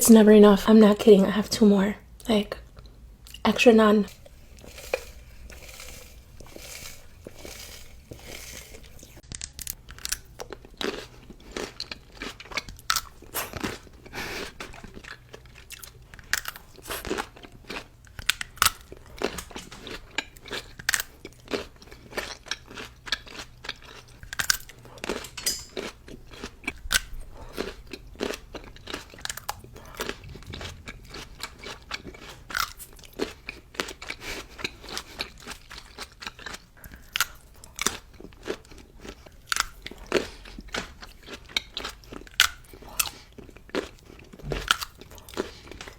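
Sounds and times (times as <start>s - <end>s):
crunchy chewing and biting: 4.1s - 45.9s.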